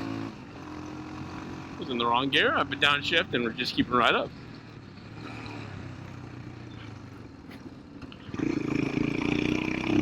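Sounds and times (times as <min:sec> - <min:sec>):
motorcycle engine accelerating: 0:00.0 - 0:03.0, 0:04.4 - 0:10.0.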